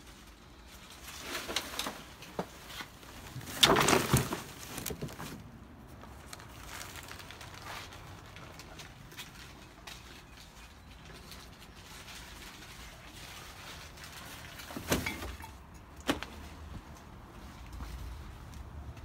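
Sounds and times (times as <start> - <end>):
handling knocks and rustles: 0.0 - 19.0.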